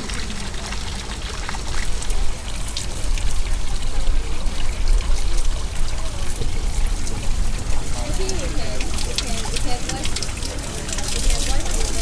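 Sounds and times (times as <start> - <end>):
water pouring from pipe: 0.0 - 12.0
water splashing on drain grate: 0.0 - 12.0.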